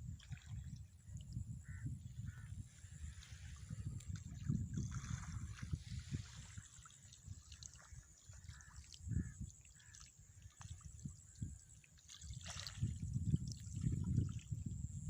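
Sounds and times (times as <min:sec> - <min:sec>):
faint trickling water: 0:00.0 - 0:14.7
wind buffeting microphone: 0:00.0 - 0:15.0.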